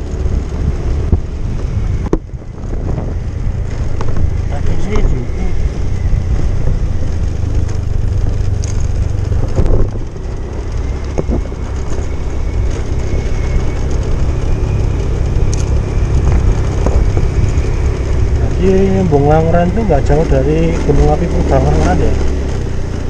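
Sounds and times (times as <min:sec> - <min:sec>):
motorcycle engine and wind rumble: 0:00.0 - 0:23.0.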